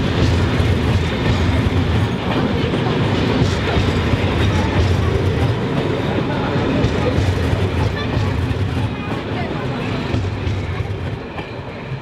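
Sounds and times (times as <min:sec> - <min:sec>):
steel wheels rumbling on rails: 0:00.0 - 0:12.0.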